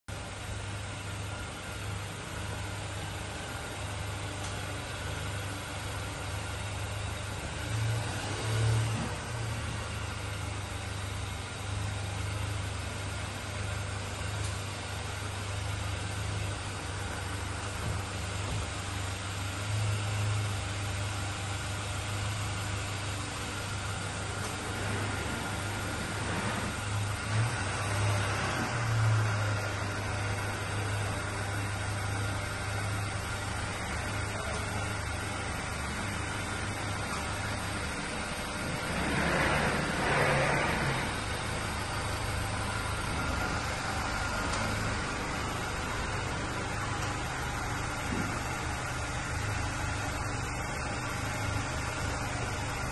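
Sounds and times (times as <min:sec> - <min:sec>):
truck engine idling: 0:00.1 - 0:52.9.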